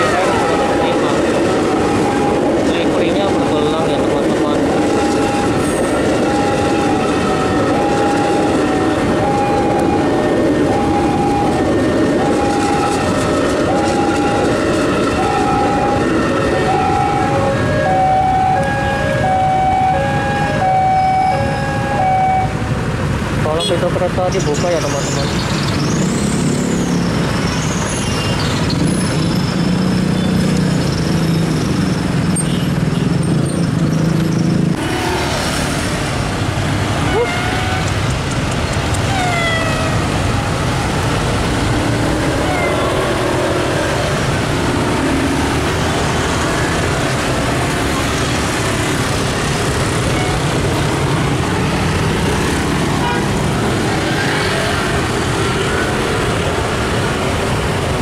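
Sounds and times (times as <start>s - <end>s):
quiet street background: 0.0s - 58.0s
road traffic: 0.0s - 58.0s.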